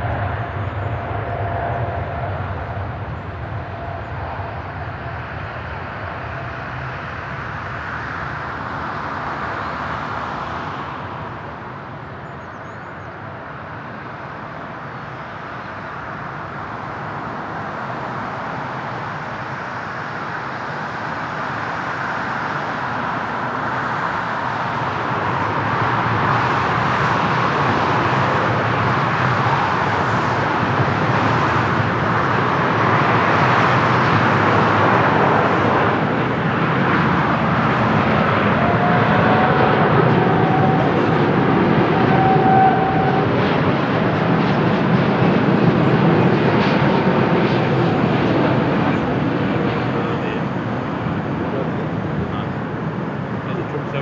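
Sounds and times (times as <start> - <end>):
airliner engines landing: 0.0 - 54.0
jet engines roaring on takeoff: 0.0 - 54.0.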